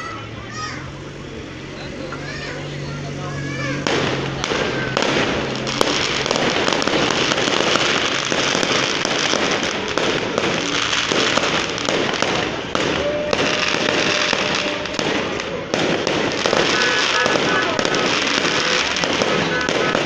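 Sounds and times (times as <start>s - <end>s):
fireworks bangs and crackles: 0.5s - 20.0s.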